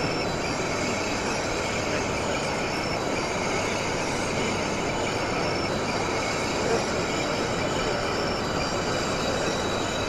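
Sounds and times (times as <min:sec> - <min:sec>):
model train running on tracks: 0:00.0 - 0:10.0.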